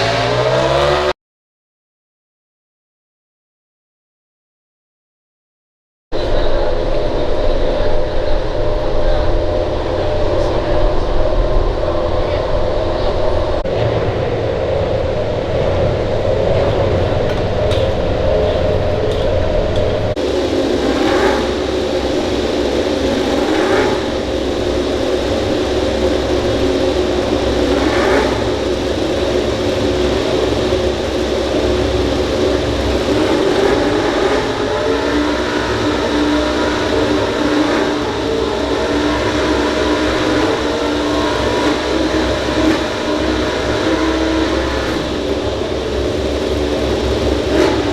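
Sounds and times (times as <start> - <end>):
racing motorcycle engines: 0.0 - 1.2, 6.2 - 47.9.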